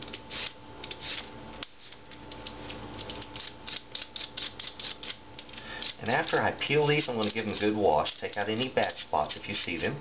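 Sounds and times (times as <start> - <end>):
peeler scraping potato: 0.0 - 2.1, 3.0 - 10.0.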